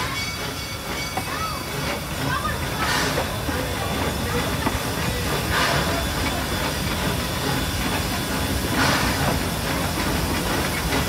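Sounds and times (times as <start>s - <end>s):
steam hissing: 0.0s - 11.0s
steam locomotive rumbling: 0.0s - 11.0s.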